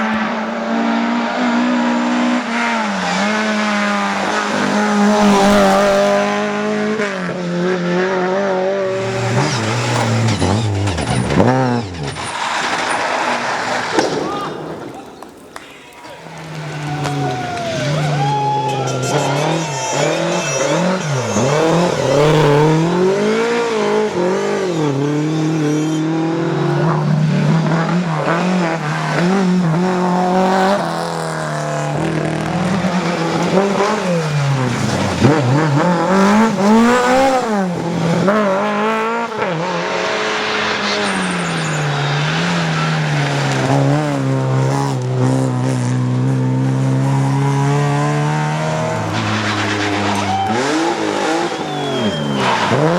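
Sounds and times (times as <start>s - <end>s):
rally car engine revving: 0.0s - 15.5s, 16.1s - 52.9s
tyre noise: 8.8s - 52.9s.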